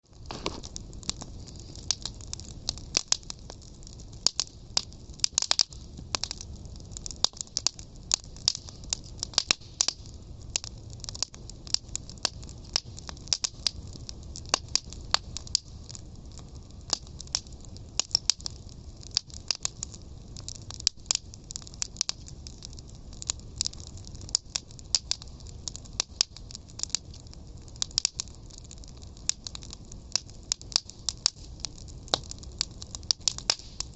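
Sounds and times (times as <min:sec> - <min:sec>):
fire crackling: 0:00.0 - 0:33.9.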